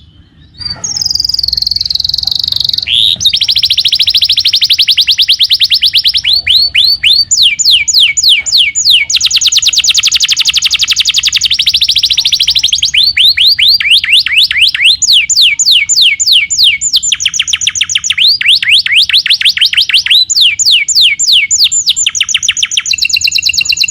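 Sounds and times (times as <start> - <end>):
canary singing: 0.0 - 23.9.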